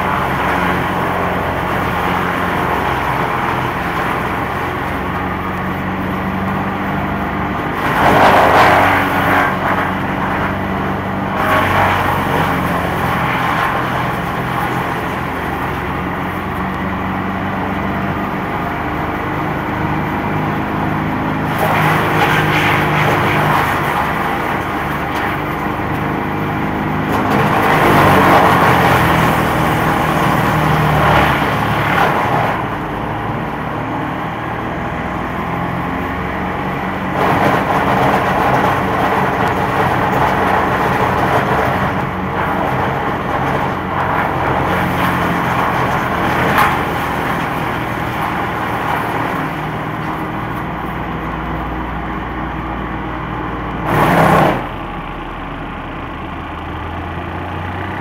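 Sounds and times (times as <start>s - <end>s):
wood chipper engine running: 0.0s - 58.0s.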